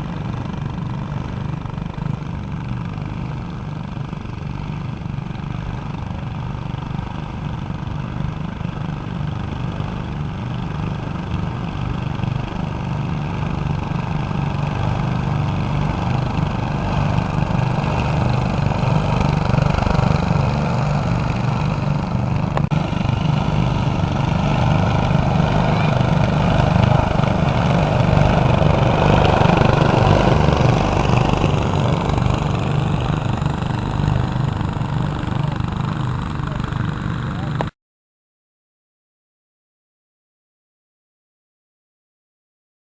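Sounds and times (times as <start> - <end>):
lawn tractor engines running: 0.0 - 37.7.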